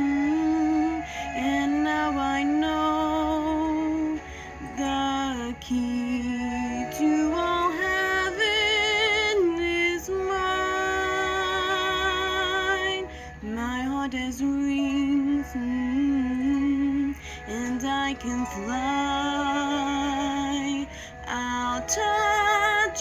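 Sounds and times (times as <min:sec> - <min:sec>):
woman singing with vibrato: 0:00.0 - 0:23.0.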